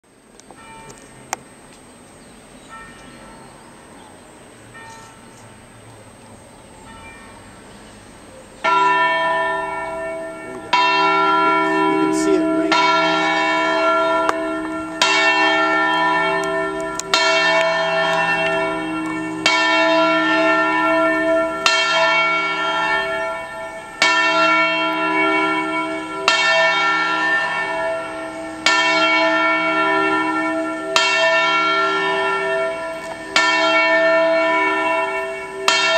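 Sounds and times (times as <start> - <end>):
church bells ringing: 0.5 - 1.4, 2.6 - 6.1, 6.8 - 35.9.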